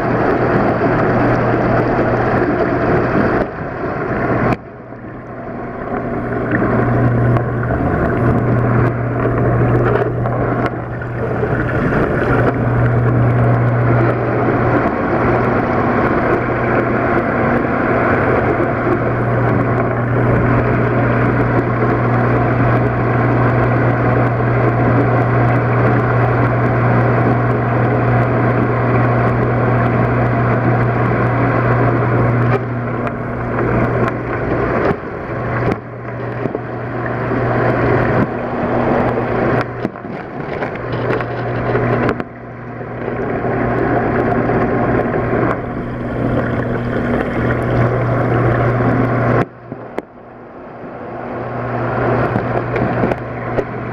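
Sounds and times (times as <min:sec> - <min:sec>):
motor humming: 0:00.0 - 0:53.9.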